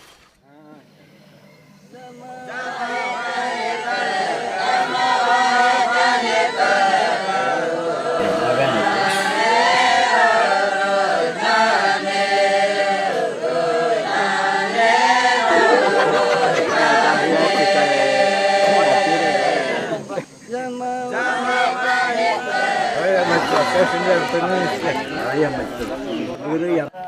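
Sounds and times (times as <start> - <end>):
group singing a chant: 1.8 - 26.6.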